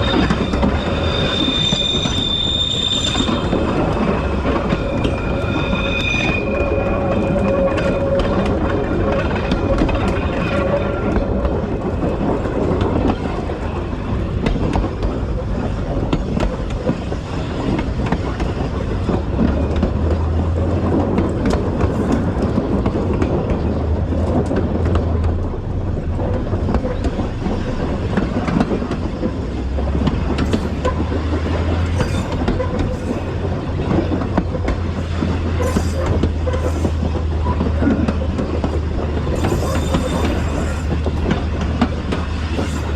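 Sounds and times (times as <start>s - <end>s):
clickety-clack of rail joints: 0.0s - 42.9s
train engine and wheels rumbling: 0.0s - 42.9s.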